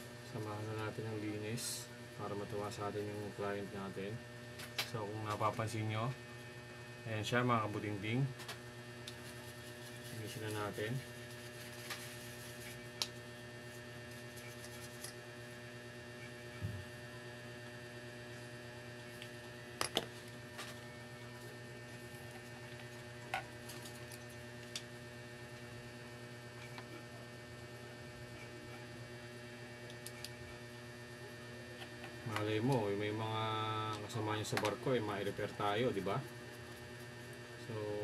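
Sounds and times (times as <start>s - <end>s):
electrical mains hum: 0.0s - 38.0s.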